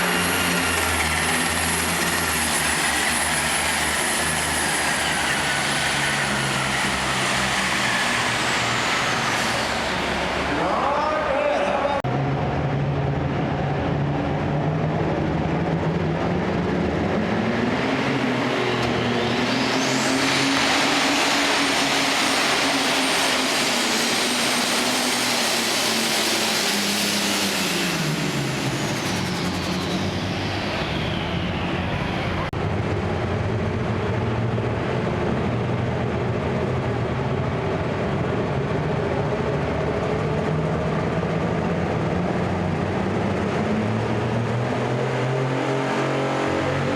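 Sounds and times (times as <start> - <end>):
tractor engine drone: 0.0 - 46.9
turbocharger whine: 0.0 - 46.9.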